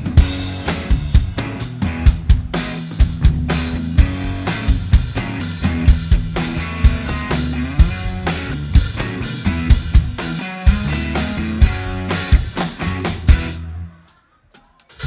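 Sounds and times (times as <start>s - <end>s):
rock band playing: 0.0s - 13.8s.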